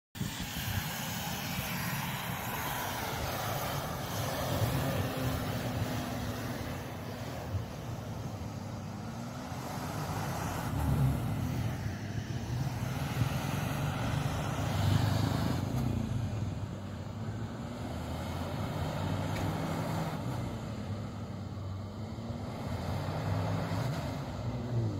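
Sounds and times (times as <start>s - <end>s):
diesel engine under load: 0.2s - 24.9s
tyres churning snow: 0.2s - 24.9s.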